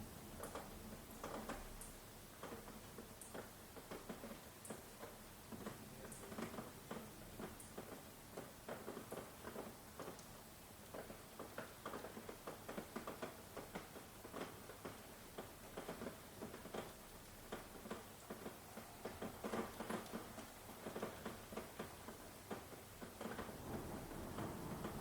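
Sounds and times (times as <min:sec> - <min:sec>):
faint steady hiss: 0:00.0 - 0:25.0
rain drops pattering: 0:00.0 - 0:25.0.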